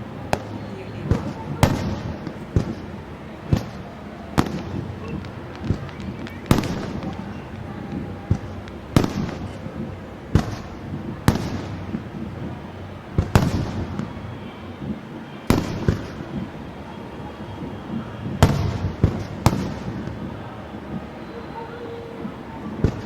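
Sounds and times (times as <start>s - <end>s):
fireworks bursting with echo: 0.0s - 23.0s.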